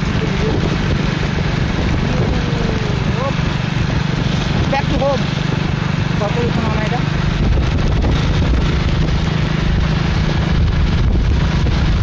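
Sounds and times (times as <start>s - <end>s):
motorbike engine hum: 0.0s - 12.0s
wind rushing over microphone: 0.0s - 12.0s.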